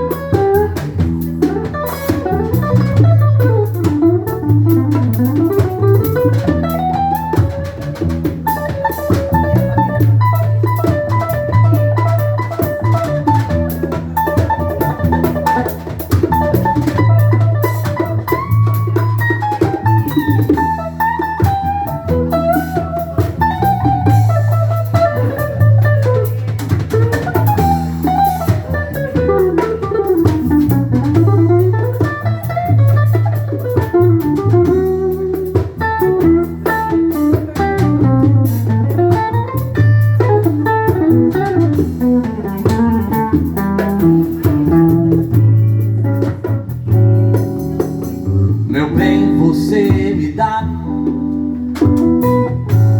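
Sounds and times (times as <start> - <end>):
bass and drum groove: 0.0 - 52.9
electric guitar lead line: 0.0 - 52.9.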